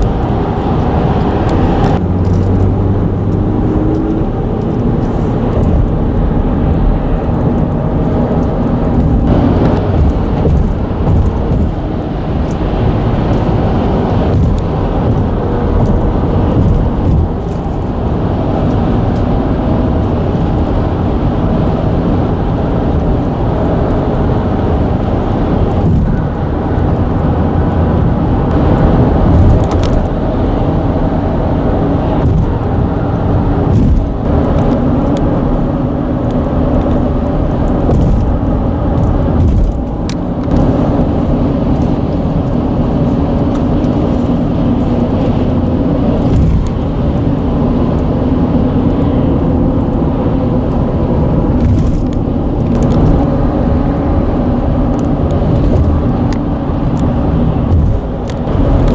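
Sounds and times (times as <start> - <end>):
traffic rumble on bridge: 0.0 - 58.9.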